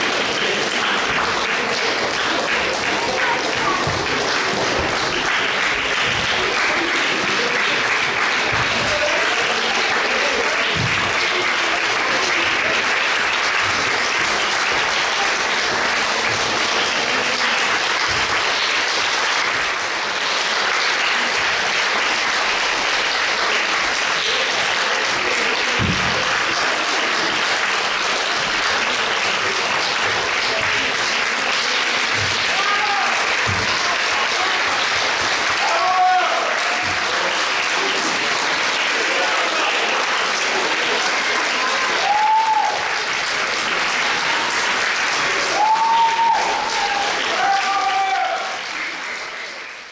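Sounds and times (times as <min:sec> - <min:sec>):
audience applauding: 0:00.0 - 0:49.9.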